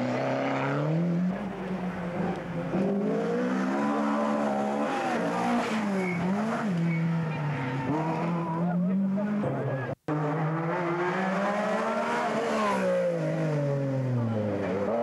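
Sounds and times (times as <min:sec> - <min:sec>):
rally car passing close: 0:00.0 - 0:15.0
rally car revving away: 0:00.0 - 0:15.0.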